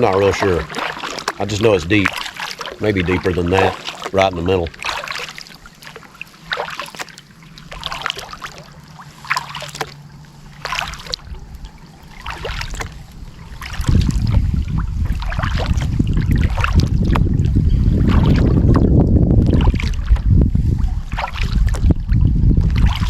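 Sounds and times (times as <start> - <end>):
wind buffeting microphone: 0.0 - 0.8, 1.4 - 5.8, 7.3 - 23.0
kayak paddle splashing water: 0.0 - 23.0.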